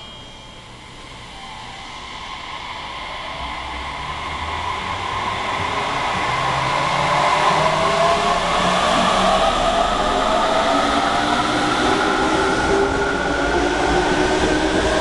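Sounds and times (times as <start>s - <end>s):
electric train pulling away: 0.0s - 15.0s.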